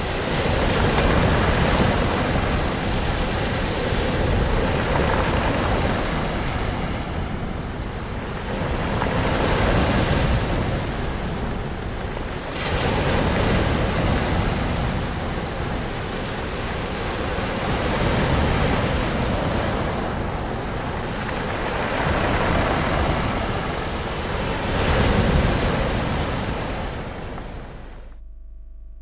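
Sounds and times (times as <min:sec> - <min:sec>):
ocean waves breaking on shore: 0:00.0 - 0:28.1.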